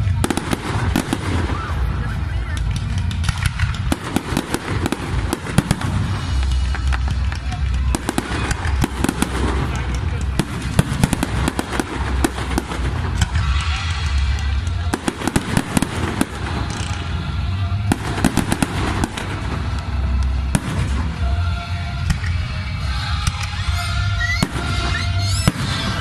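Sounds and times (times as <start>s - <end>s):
fireworks whistles: 0.0s - 7.2s, 7.8s - 26.0s
fireworks bangs and crackling: 0.0s - 26.0s.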